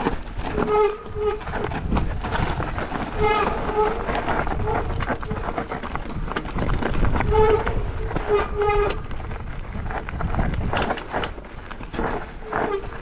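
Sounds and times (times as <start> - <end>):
bike tyres rumbling on dirt: 0.0 - 13.0.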